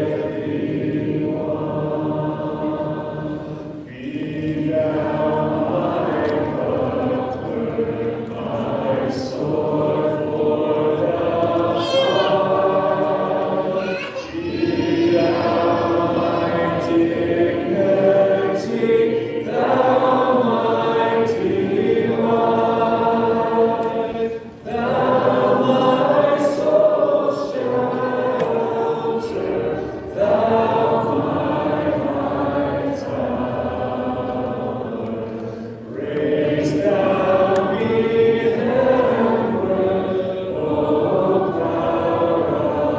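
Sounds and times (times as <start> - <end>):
congregation singing a hymn: 0.0 - 42.9.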